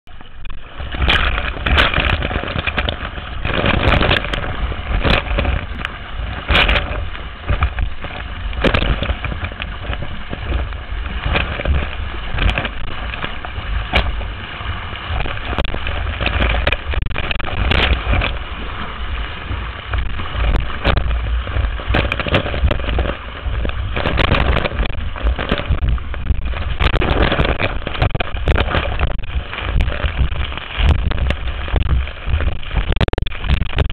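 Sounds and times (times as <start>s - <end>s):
board hull slapping water: 0.0s - 33.9s
water rushing and rumbling: 0.0s - 33.9s
wind buffeting microphone: 0.1s - 33.9s.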